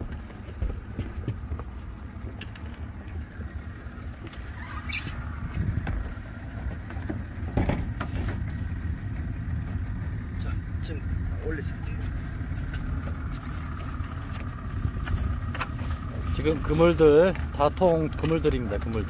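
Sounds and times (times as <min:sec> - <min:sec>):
light knocks and clatter: 0:00.0 - 0:04.4, 0:05.5 - 0:10.3, 0:11.8 - 0:19.0
boat engine idling: 0:00.0 - 0:19.0.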